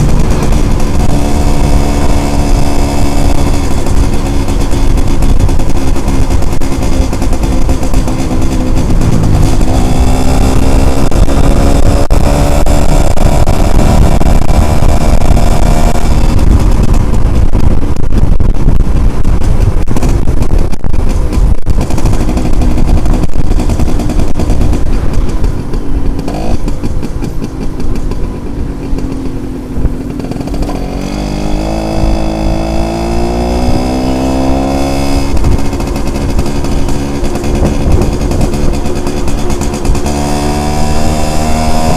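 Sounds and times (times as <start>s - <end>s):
two-stroke motorcycle engine: 0.0s - 41.9s.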